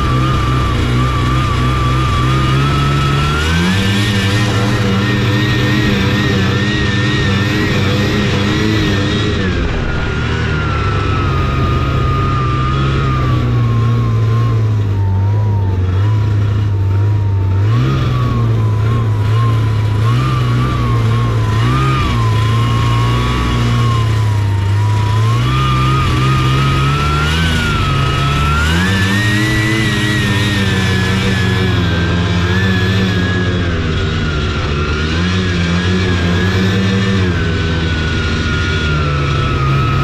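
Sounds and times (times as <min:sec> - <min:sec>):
snowmobile engine running: 0:00.0 - 0:40.0.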